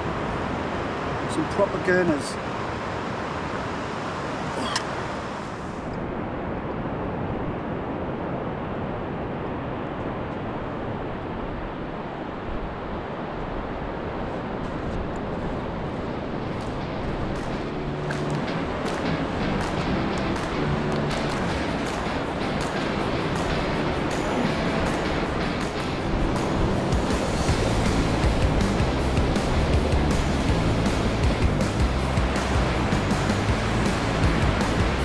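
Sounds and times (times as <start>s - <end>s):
surf breaking on beach: 0.0s - 35.0s
wind on microphone: 2.6s - 35.0s.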